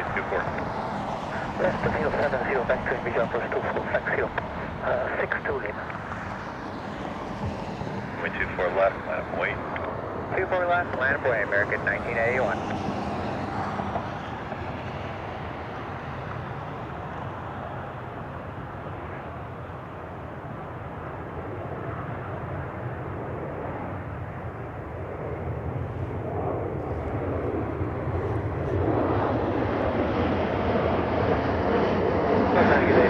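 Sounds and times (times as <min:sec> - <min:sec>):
jet engine noise: 0:00.0 - 0:33.0.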